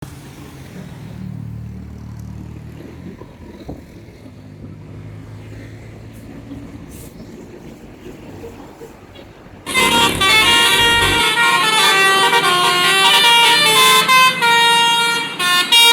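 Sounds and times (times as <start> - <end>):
bus engine running: 0.0 - 15.9.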